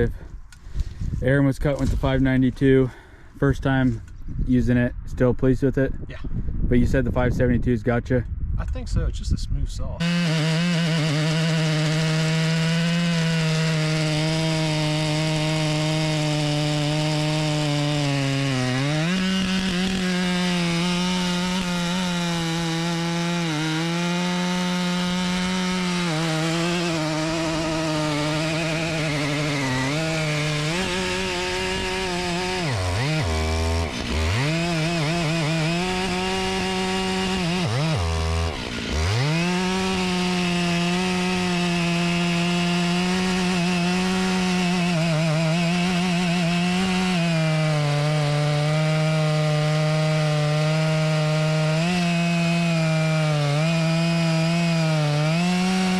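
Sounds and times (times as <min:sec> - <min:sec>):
chainsaw cutting wood: 0:00.0 - 0:01.0, 0:10.0 - 0:55.9.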